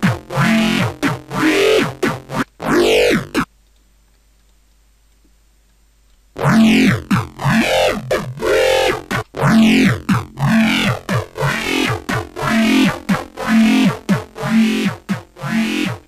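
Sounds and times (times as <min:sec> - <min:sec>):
growling synth bass notes: 0:00.0 - 0:03.5, 0:06.4 - 0:16.0.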